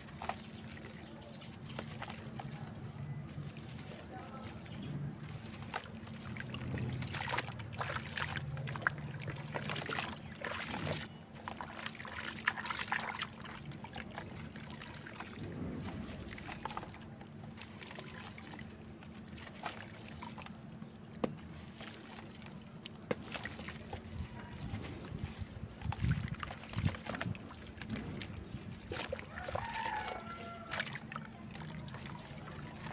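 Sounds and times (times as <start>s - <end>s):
squelching and splashing: 0.0s - 32.9s
water dripping and sloshing: 0.0s - 32.9s
wet dirt crumbled by hand: 0.0s - 32.9s.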